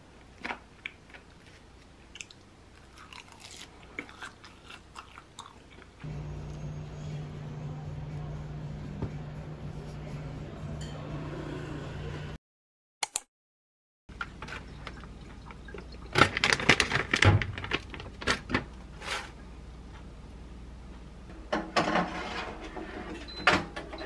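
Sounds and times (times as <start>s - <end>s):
low room hum: 0.0s - 12.4s, 14.1s - 24.0s.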